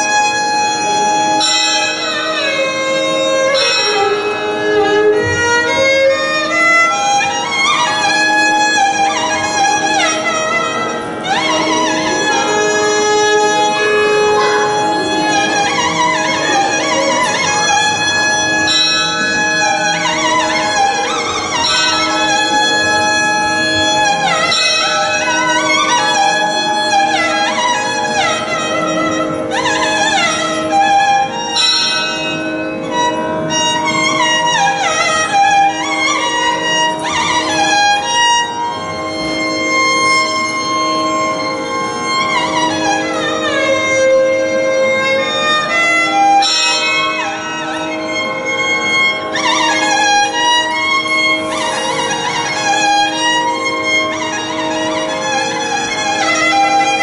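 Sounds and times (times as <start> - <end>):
violin playing sliding phrases: 0.0 - 57.0.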